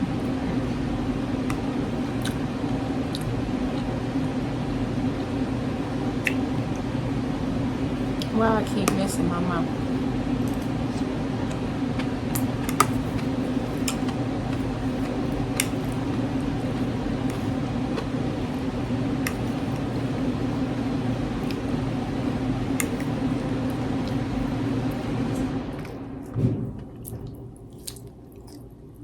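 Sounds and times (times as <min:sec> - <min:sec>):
quiet eating sounds: 0:00.0 - 0:29.0
steady low hum: 0:00.0 - 0:29.0.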